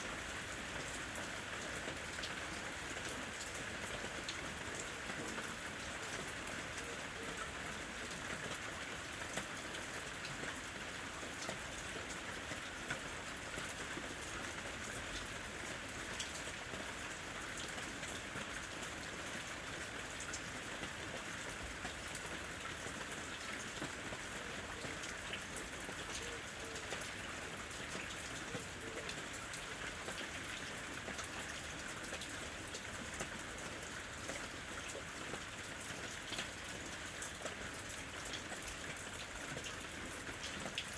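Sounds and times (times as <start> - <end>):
rain drops ticking: 0.0 - 40.9
rain on a roof: 0.0 - 40.9.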